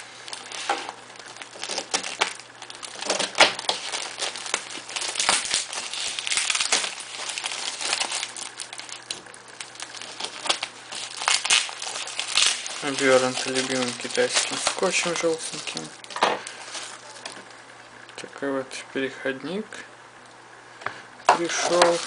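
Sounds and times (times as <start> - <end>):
wrapping crinkled and torn open: 0.0 - 18.2, 21.4 - 22.0.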